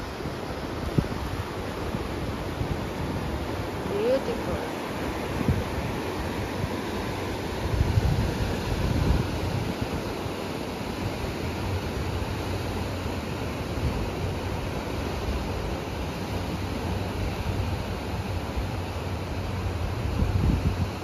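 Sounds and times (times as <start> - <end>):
surf washing against rocks: 0.0 - 21.0
wind rumbling on microphone: 0.0 - 21.0.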